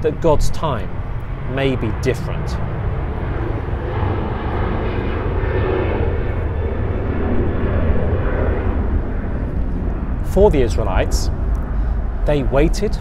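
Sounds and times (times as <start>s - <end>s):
airplane engine rumble: 0.0s - 13.0s.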